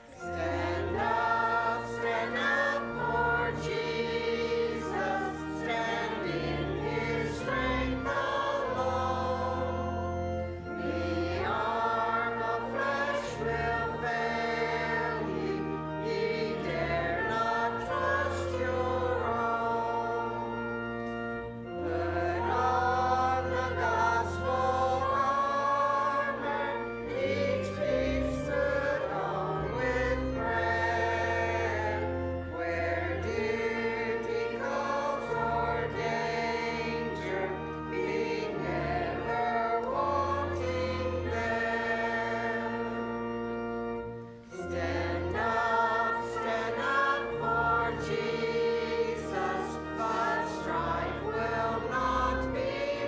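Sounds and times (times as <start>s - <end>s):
choir singing: 0.0s - 53.0s
instrumental accompaniment: 0.0s - 53.0s.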